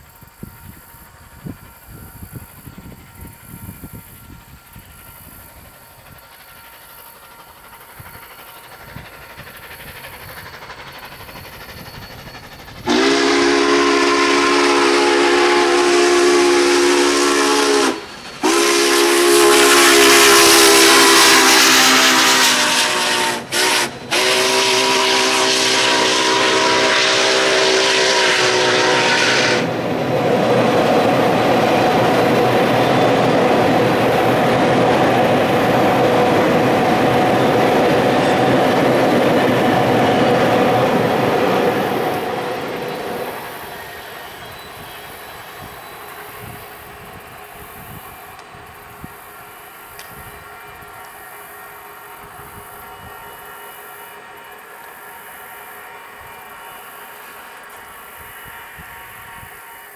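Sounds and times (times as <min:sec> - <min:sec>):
train passing rumble: 0:00.0 - 0:59.9
steam locomotive chime whistle: 0:10.3 - 0:30.3, 0:30.9 - 0:59.9.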